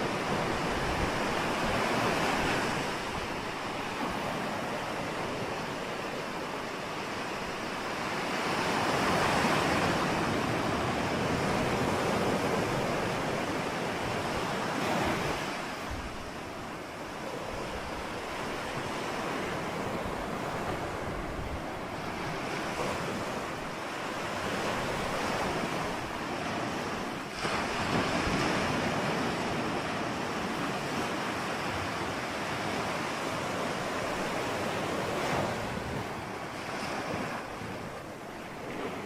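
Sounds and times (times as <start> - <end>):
ocean waves breaking: 0.0 - 39.0.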